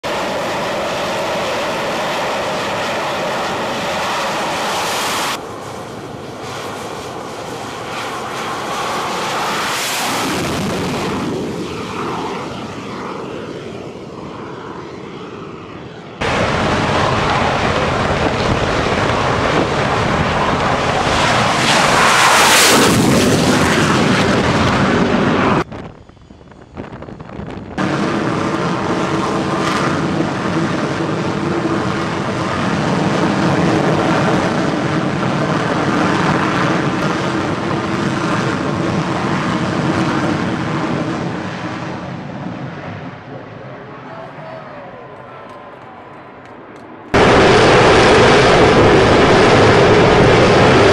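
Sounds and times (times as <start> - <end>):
high engine whine: 0.0 - 50.9
jet engine running: 0.0 - 50.9
jet rush: 0.0 - 50.9.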